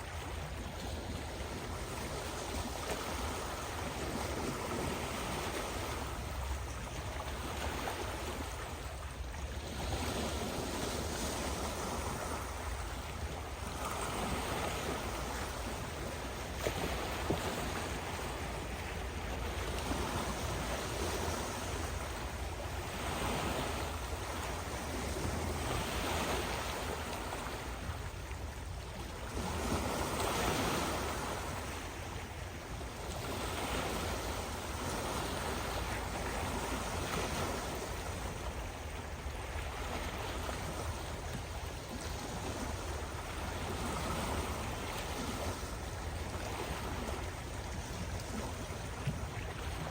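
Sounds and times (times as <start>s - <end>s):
sea waves breaking on shore: 0.0s - 49.9s.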